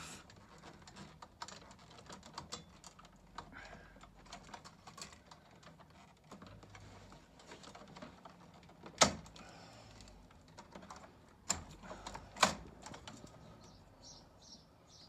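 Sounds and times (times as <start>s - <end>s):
clicks and knocks of handled parts: 0.2s - 13.7s.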